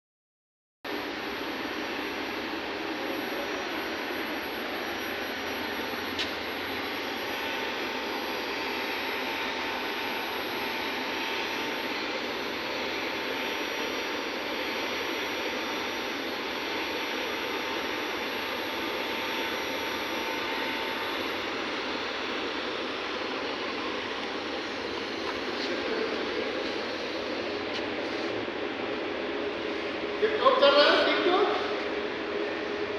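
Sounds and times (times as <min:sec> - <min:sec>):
faint steady whine: 0:00.9 - 0:32.9.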